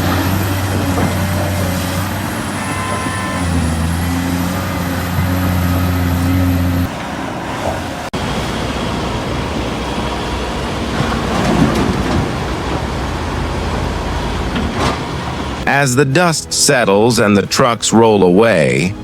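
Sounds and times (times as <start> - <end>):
heavy diesel machinery rumbling: 0.0 - 19.0.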